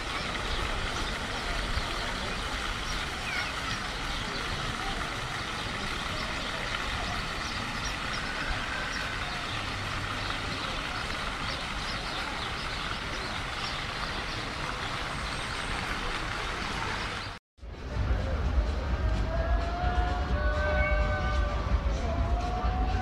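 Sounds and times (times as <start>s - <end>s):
fountain water jets splashing: 0.0s - 23.0s.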